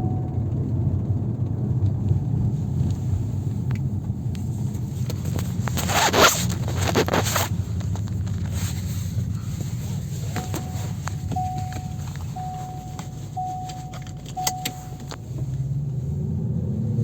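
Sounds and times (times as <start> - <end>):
vehicle driveline low rumble: 0.0 - 17.0.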